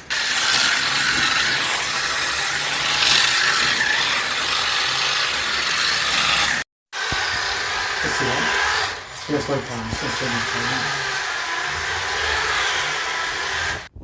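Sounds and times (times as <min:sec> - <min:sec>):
toy car motor and gear rattle: 0:00.0 - 0:12.8.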